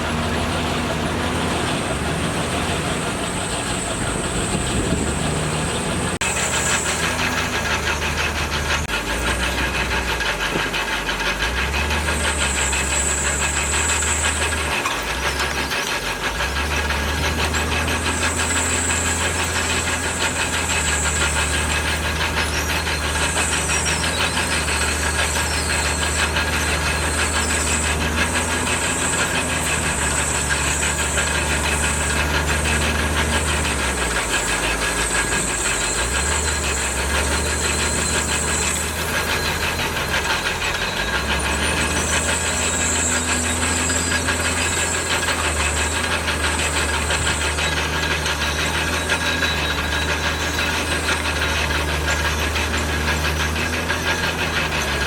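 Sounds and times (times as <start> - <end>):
diesel engine clattering: 0.0 - 55.0.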